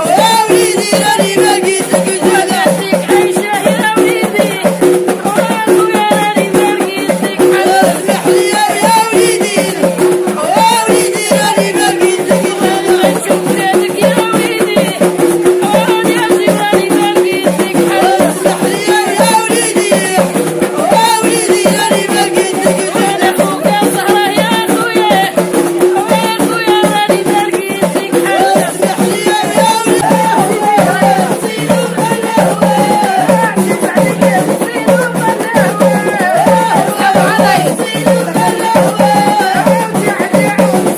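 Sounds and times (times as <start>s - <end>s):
fast hand percussion and rattles: 0.0s - 40.9s
woman singing folk song: 0.0s - 40.9s.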